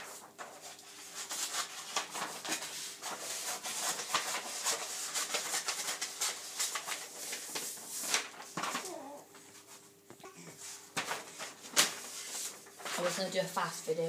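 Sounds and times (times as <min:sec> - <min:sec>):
paper rustling and crinkling: 0:00.0 - 0:13.7.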